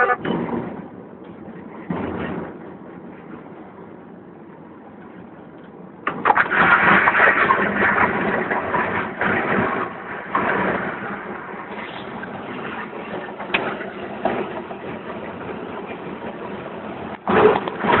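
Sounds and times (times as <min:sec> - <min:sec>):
train wheels rattling on rail: 0:00.0 - 0:18.0.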